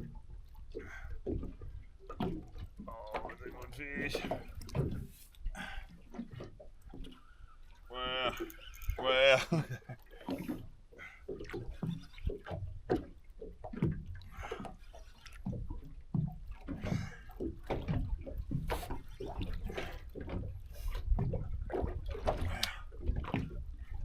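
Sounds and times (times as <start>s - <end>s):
water slapping boat hull: 0.0s - 24.0s.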